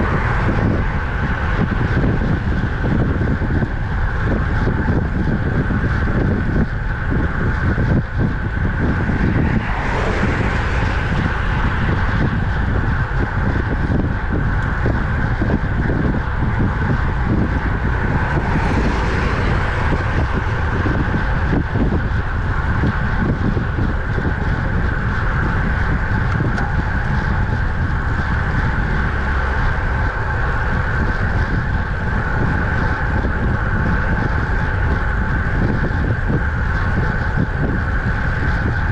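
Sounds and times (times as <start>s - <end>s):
road rumble: 0.0s - 38.9s
wind rushing over microphone: 0.0s - 38.9s.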